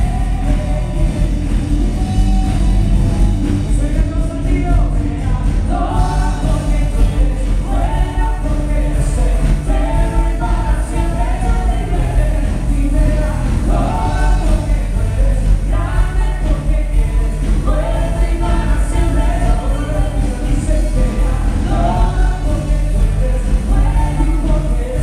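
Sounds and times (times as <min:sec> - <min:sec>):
band playing worship song: 0:00.0 - 0:25.0
electric guitar: 0:00.0 - 0:25.0
keyboard: 0:00.0 - 0:25.0
lead and backing vocals singing: 0:00.0 - 0:25.0.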